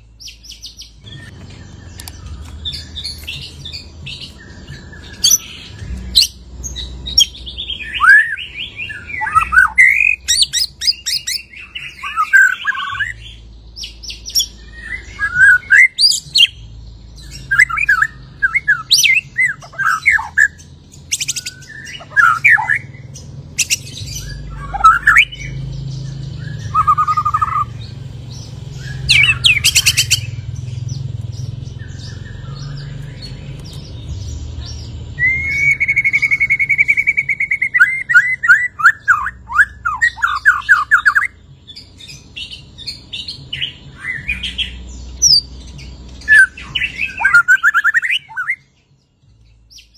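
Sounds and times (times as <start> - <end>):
bird singing varied song: 0.0 - 49.9.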